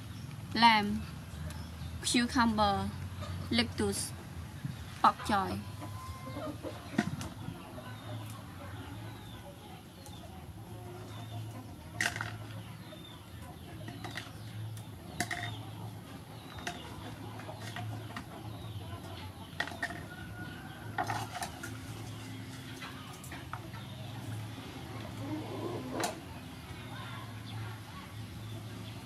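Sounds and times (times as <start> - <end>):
bird calls and clucks: 4.6 - 29.0.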